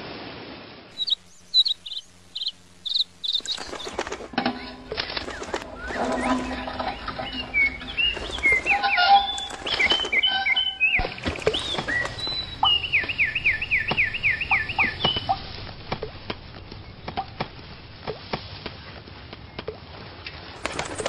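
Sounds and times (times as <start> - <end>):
small birds chirping: 0.9 - 19.8.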